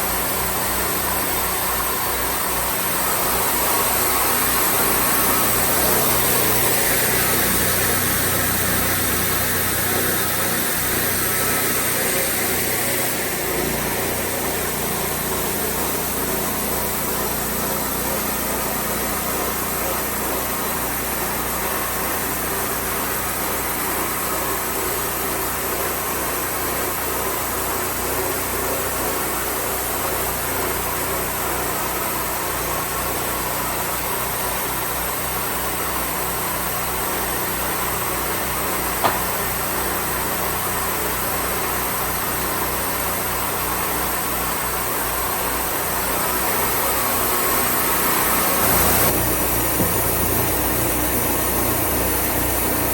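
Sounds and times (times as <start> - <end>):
sawmill engine running: 0.0 - 52.9.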